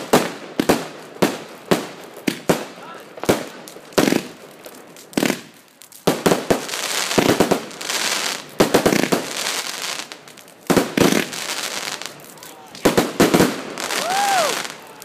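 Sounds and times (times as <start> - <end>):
crackle of bursting stars: 0.0 - 15.0
firework bangs: 0.0 - 15.0.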